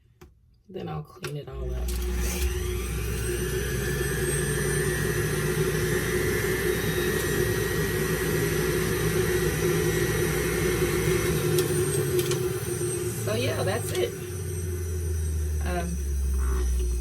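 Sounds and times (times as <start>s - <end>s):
electric juicer motor humming: 1.6s - 17.0s.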